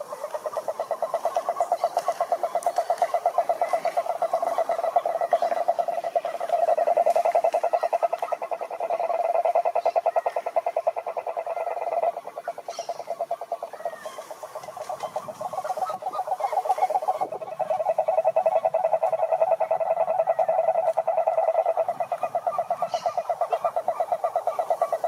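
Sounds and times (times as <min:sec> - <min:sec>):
frogs calling in pulsed trill: 0:00.0 - 0:25.0.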